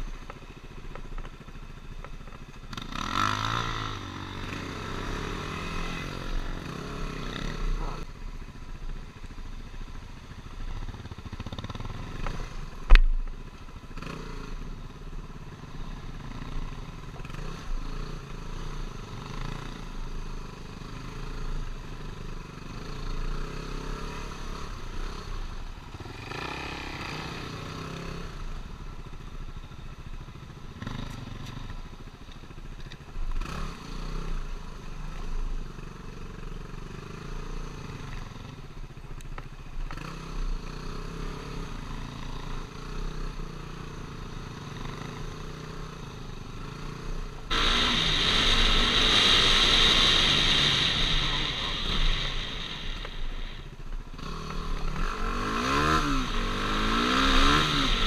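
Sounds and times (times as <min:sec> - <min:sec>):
motorcycle engine revving: 0:02.4 - 0:08.7, 0:09.8 - 0:32.0, 0:39.8 - 0:58.0.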